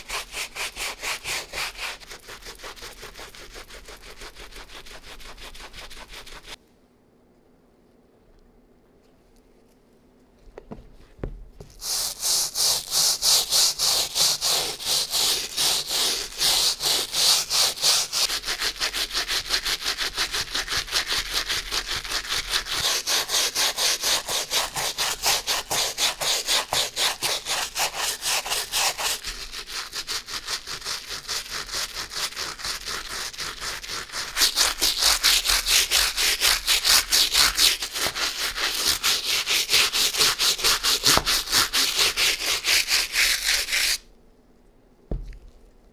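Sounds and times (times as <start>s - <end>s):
bristle brush scrubbing a sneaker: 0.0s - 6.6s, 11.6s - 44.0s.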